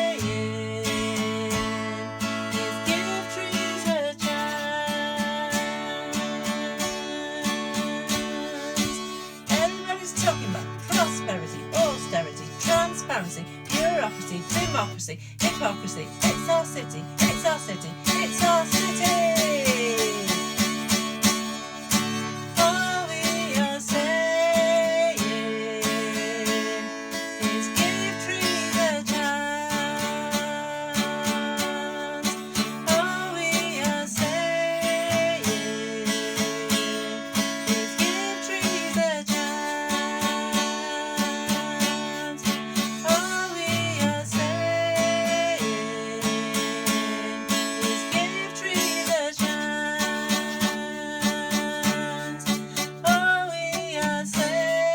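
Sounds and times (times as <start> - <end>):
strummed acoustic guitar music: 0.0 - 54.9.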